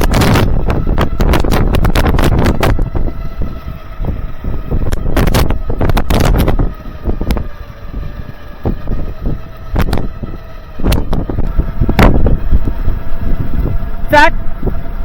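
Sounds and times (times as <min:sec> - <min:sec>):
faint steady whine: 0:00.0 - 0:15.0
truck engine rumbling: 0:00.0 - 0:15.0
wind on microphone: 0:00.0 - 0:15.0.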